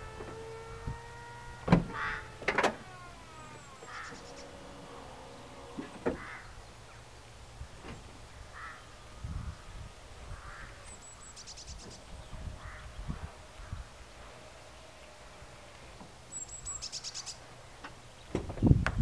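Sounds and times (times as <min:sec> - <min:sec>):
birds calling: 0:00.0 - 0:18.8.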